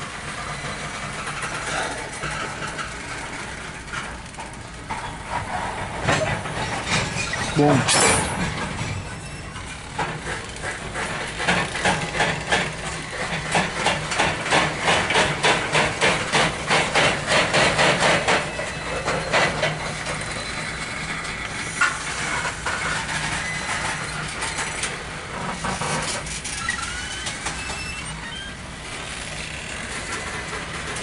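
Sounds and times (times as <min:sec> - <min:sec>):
train wheels clacking over rail joints: 0:00.0 - 0:31.0.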